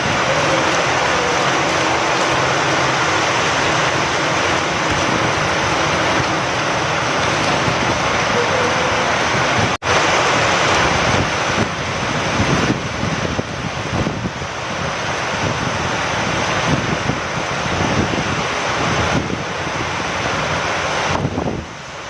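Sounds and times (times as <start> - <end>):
steady rain: 0.0 - 22.0
wind: 0.0 - 22.0.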